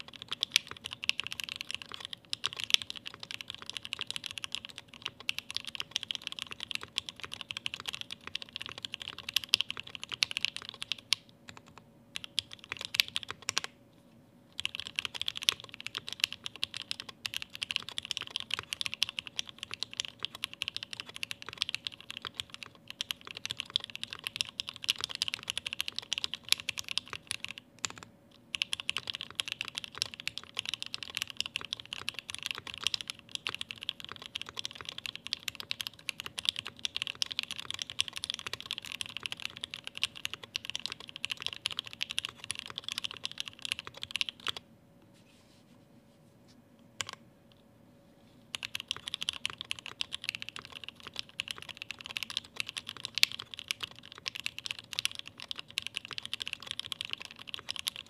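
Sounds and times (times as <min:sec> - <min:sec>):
mechanical keyboard typing clacks: 0:00.0 - 0:13.7, 0:14.6 - 0:44.6, 0:48.5 - 0:58.0
faint steady hum: 0:00.0 - 0:58.0.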